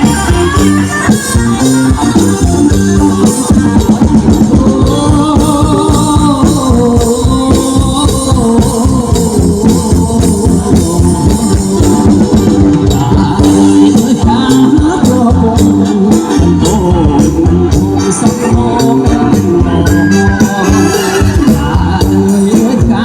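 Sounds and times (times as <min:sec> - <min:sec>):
drum beat and percussion: 0:00.0 - 0:23.0
person singing: 0:00.0 - 0:23.0.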